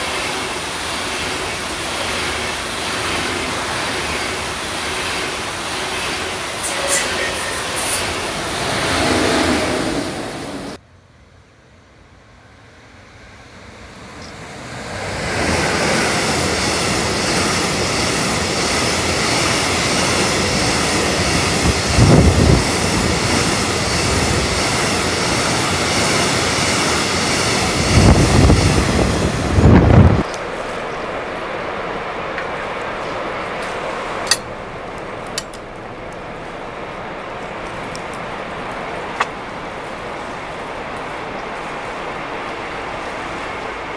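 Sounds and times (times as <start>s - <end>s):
freight train wheels rumbling: 0.0s - 10.9s, 11.9s - 43.9s
passenger train passing: 0.0s - 43.9s.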